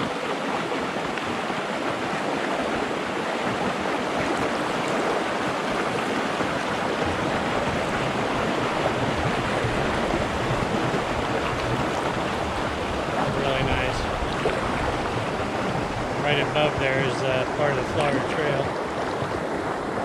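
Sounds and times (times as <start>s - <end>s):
water pouring into river: 0.0s - 20.0s.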